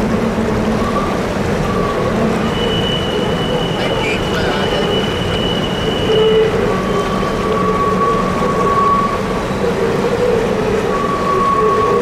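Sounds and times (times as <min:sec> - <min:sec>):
train wheels rumbling on rails: 0:00.0 - 0:12.0
wheel squeal: 0:00.8 - 0:12.0.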